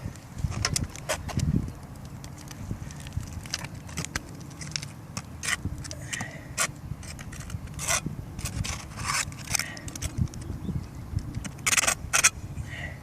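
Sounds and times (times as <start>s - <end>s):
scraping and rubbing on roof shingles: 0.0s - 12.4s.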